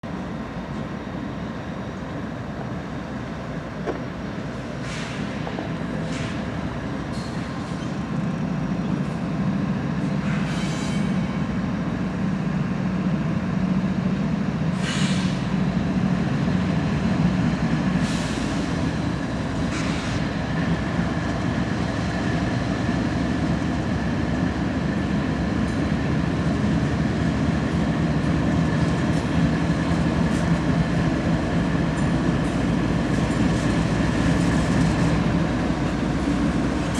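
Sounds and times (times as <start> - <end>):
diesel locomotives rumbling: 0.0 - 36.9.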